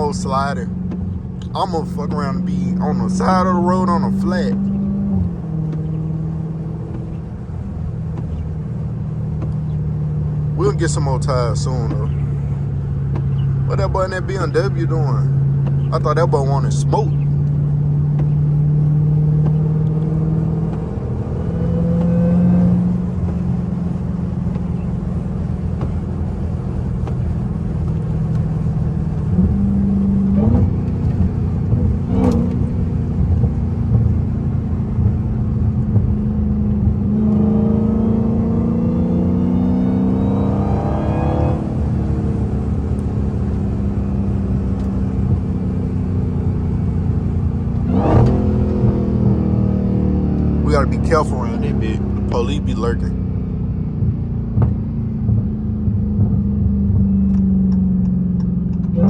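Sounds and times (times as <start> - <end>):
car exhaust note: 0.0 - 59.0
exhaust cracks: 0.0 - 59.0.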